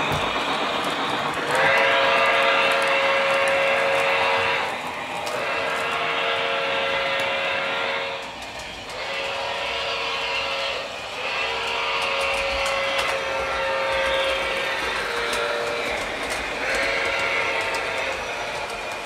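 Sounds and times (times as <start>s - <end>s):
toy trains rumbling on track: 0.0s - 19.0s
track clicks: 0.0s - 19.0s.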